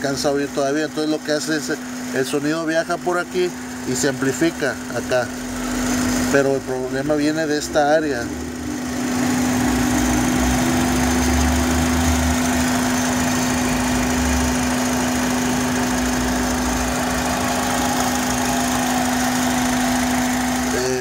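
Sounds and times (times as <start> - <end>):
car engine idling with whistle: 0.0 - 21.0.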